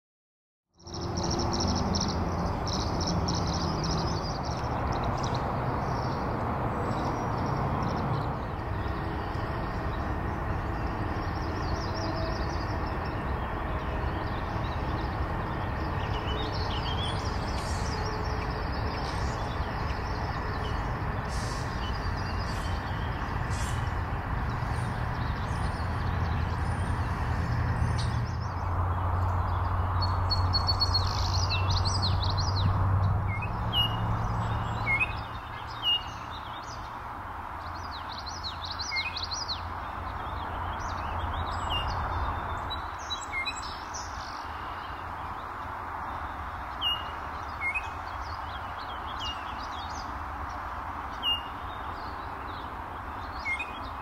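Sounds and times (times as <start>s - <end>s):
songbirds chirping and twittering: 0.7s - 54.0s.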